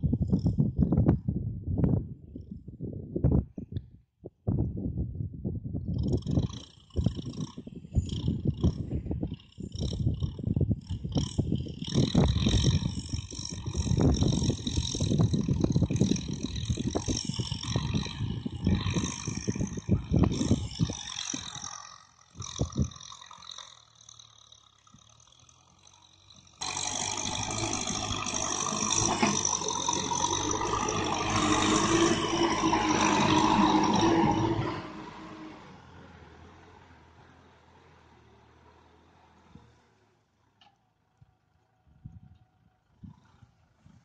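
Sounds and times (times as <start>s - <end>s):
engine with low buffeting: 0.0s - 44.0s
tractor diesel engine running: 5.9s - 44.0s.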